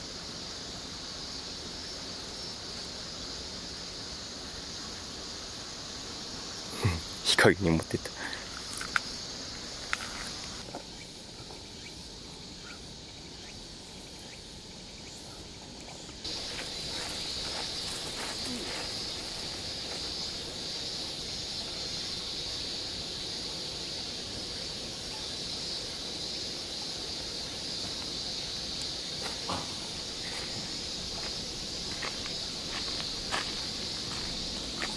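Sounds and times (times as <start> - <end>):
chorus of insects: 0.0 - 34.9.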